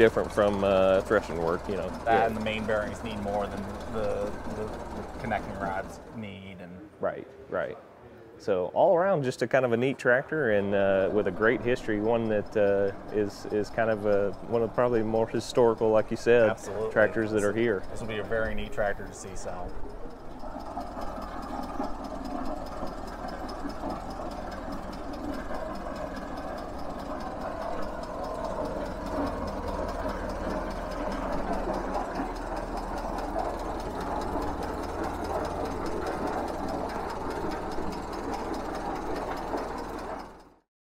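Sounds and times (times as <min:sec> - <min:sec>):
tractor engine running: 0:00.0 - 0:06.5, 0:10.6 - 0:40.6.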